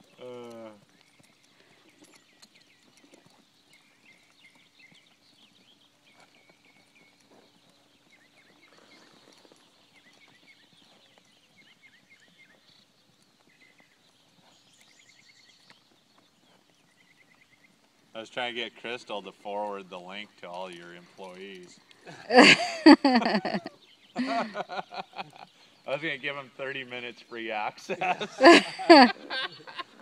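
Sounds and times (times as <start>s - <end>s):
faint horse hoofbeats: 0.0s - 30.0s.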